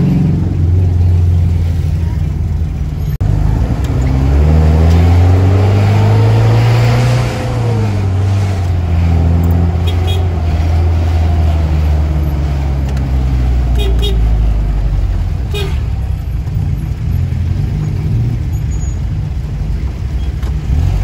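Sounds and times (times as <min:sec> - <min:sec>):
minibus engine revving: 0:00.0 - 0:21.0.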